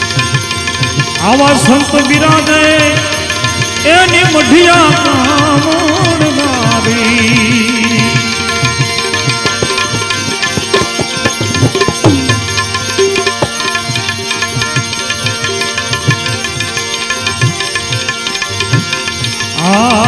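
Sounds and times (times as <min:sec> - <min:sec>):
held melody notes: 0:00.0 - 0:20.0
tabla rhythm: 0:00.0 - 0:20.0.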